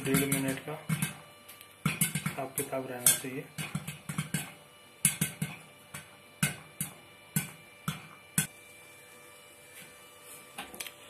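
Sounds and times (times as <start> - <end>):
popcorn popping in pressure cooker: 0.0 - 10.0.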